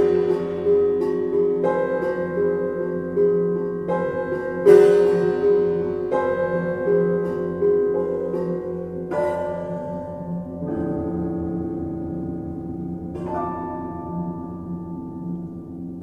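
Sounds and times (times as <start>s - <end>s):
piano-like notes: 0.0s - 16.0s.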